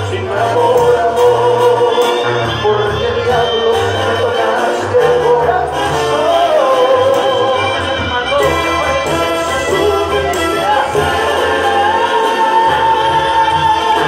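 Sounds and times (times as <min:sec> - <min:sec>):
brass band with trumpets: 0:00.0 - 0:14.0
deep bass notes: 0:00.0 - 0:14.0
person singing: 0:00.0 - 0:14.0.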